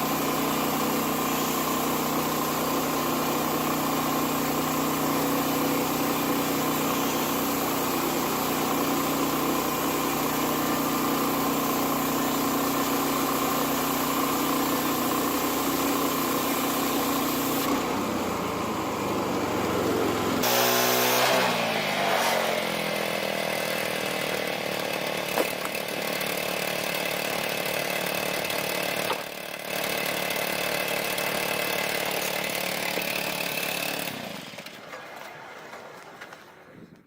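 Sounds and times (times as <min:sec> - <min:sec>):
sawmill gas engine running: 0:00.0 - 0:36.8.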